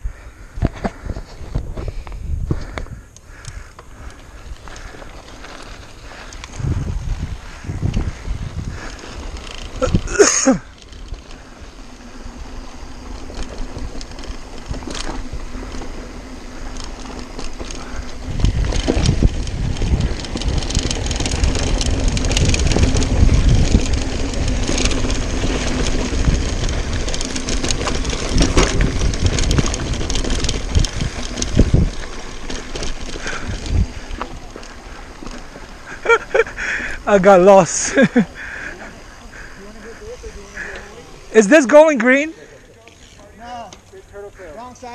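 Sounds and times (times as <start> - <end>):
wind buffeting microphone: 0.0 - 41.6
bike tyres crunching over dirt: 0.0 - 44.9
bike clicks and rattles: 0.1 - 44.9.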